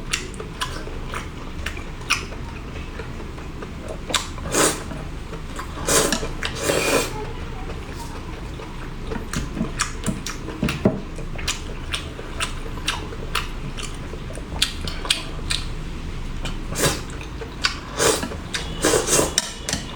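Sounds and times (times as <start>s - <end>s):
chewing: 0.0s - 15.8s, 16.4s - 19.9s.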